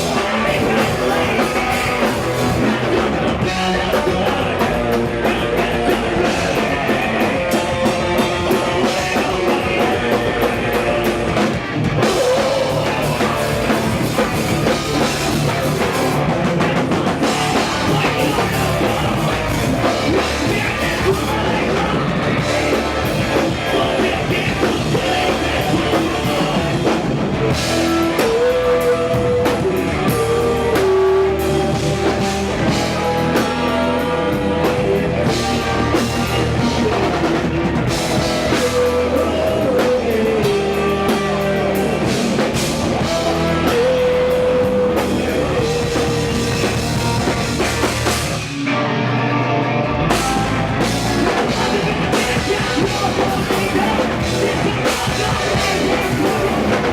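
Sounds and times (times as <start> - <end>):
rock band music: 0.0 - 56.9.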